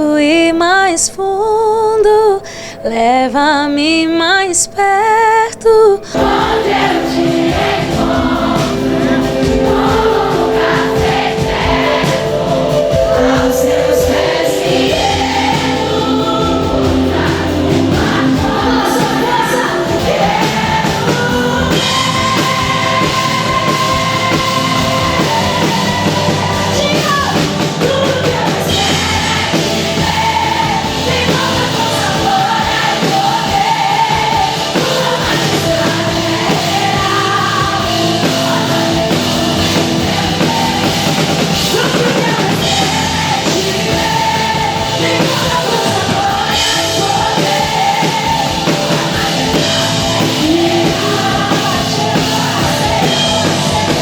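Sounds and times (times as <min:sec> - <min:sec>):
woman singing lead: 0:00.0 - 0:54.0
band with drums: 0:06.2 - 0:54.0.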